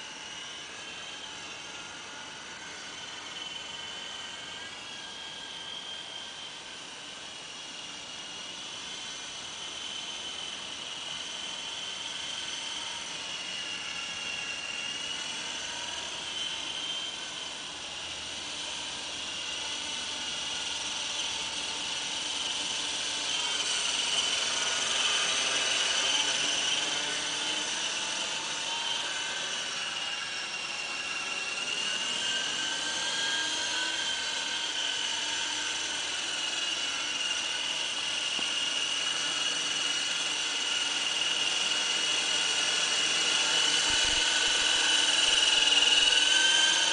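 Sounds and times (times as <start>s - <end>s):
model helicopter whine: 0.0s - 46.9s.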